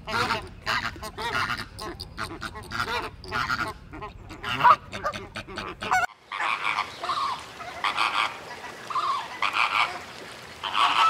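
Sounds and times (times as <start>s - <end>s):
flamingos honking: 0.0s - 11.0s.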